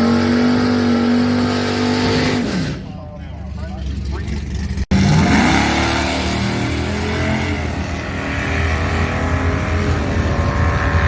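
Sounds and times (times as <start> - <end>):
car engine running: 2.0 - 11.0.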